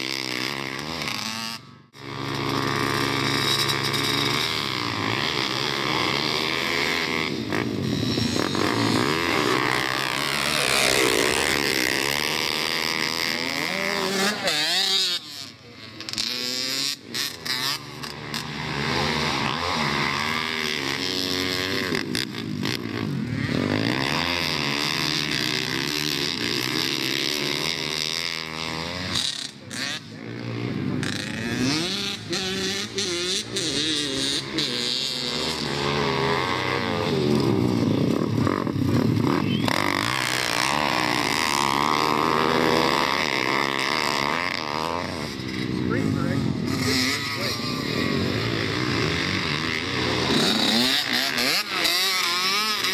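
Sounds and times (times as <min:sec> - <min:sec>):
small motorbike engines revving: 0:00.0 - 0:52.9.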